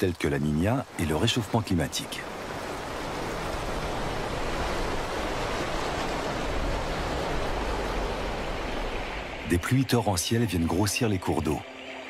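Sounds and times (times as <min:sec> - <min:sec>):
river rushing over rapids: 0:00.0 - 0:11.7.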